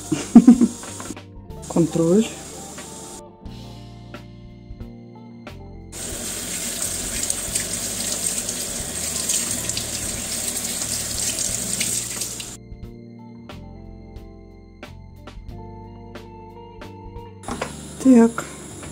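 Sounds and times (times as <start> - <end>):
soft background music: 0.0 - 18.9.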